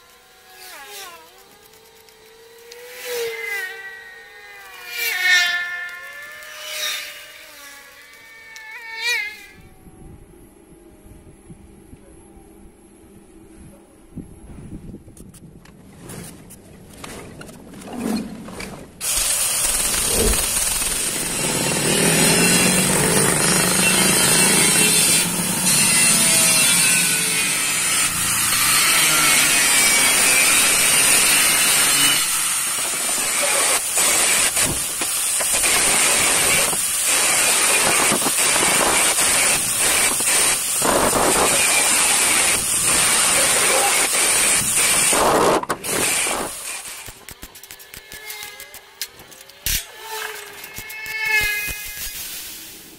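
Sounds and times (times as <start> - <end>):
angle grinder grinding steel: 0.0 - 9.4, 19.0 - 52.9.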